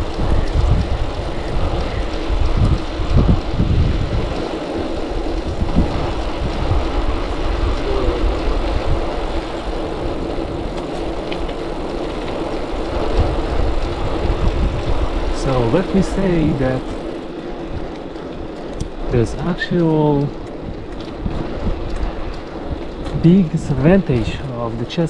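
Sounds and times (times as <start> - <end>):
bicycle tyres rolling on asphalt: 0.0 - 25.0
wind buffeting microphone: 0.0 - 25.0.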